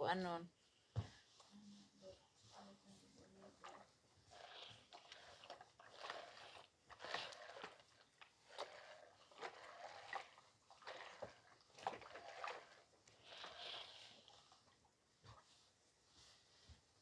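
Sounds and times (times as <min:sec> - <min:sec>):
iron swishing over fabric: 0:01.0 - 0:17.0.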